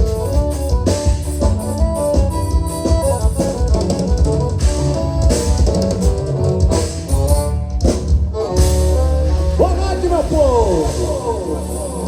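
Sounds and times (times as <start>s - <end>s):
drum kit: 0.0s - 12.0s
guitar: 0.0s - 12.0s
live band playing instrumental: 0.0s - 12.0s.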